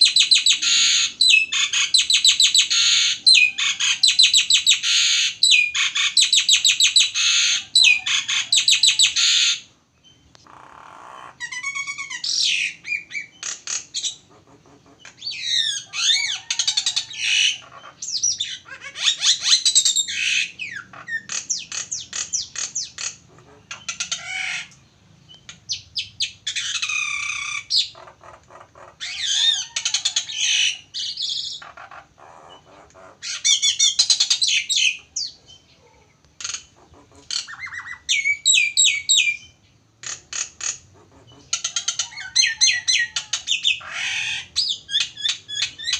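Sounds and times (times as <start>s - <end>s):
starling singing: 0.0s - 45.9s.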